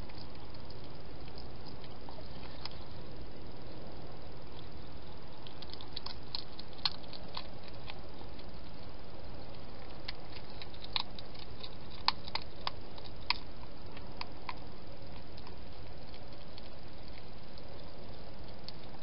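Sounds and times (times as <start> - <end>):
hedgehog crunching food: 0.0 - 19.0
steady background hiss: 0.0 - 19.0.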